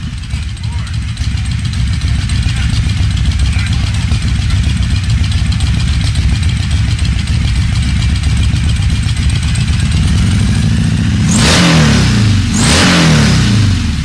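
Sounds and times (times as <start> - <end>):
motorcycle engine idling: 0.0 - 14.0
motorcycle engine revving: 0.0 - 14.0.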